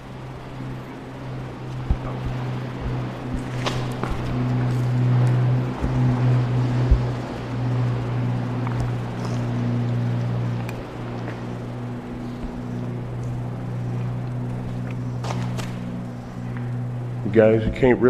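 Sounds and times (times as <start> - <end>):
low engine drone: 0.0 - 18.0.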